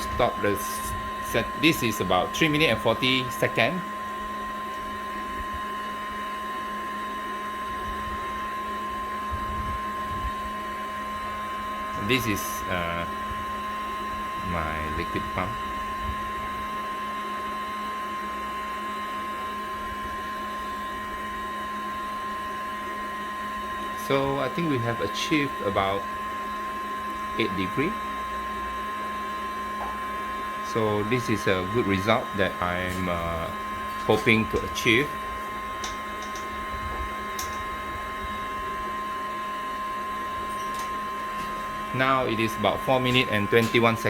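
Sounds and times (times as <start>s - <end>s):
electric liquid pump humming: 0.0s - 44.0s.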